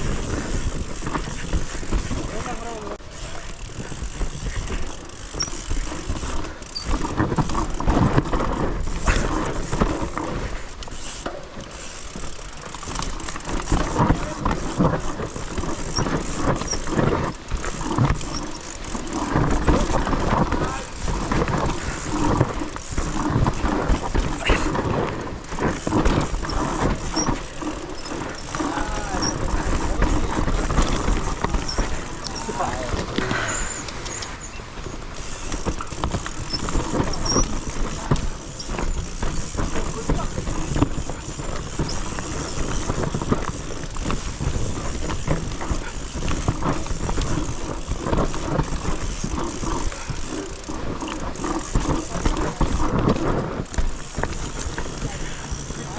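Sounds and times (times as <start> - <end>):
bike frame and chain rattling: 0.0 - 55.9
bike tyres rolling over rocks: 0.0 - 55.9.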